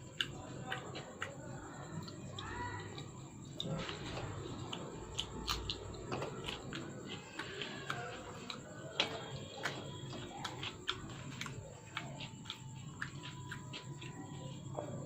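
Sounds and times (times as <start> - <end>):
mouth clicks from chewing: 0.0 - 14.2.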